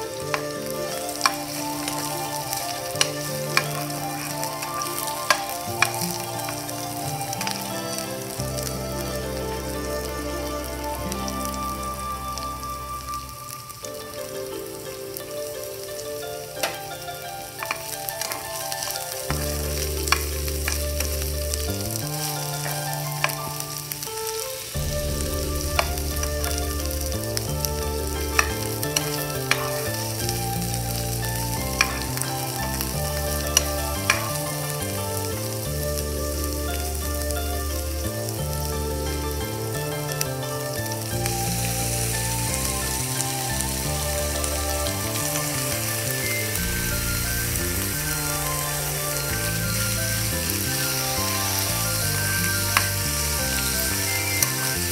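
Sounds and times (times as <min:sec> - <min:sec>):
oil sizzling in a pan: 0:00.0 - 0:54.9.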